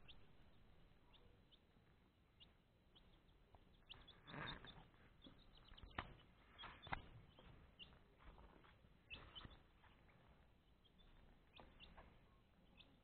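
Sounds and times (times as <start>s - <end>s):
high chirps of small birds: 0.0s - 1.7s, 2.4s - 8.4s, 9.0s - 13.0s.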